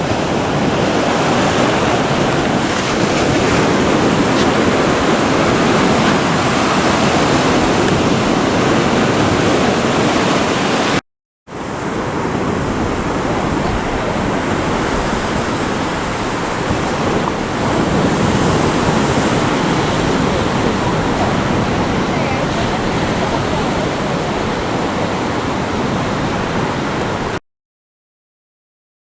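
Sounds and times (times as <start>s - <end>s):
wind on microphone: 0.0s - 11.0s, 11.6s - 27.4s
ocean surf washing on beach: 0.0s - 27.4s.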